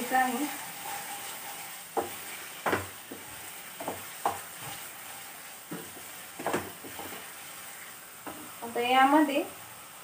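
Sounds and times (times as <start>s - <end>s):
wooden spatula scraping pan: 0.0s - 8.4s
paste sizzling in oil: 0.0s - 10.0s.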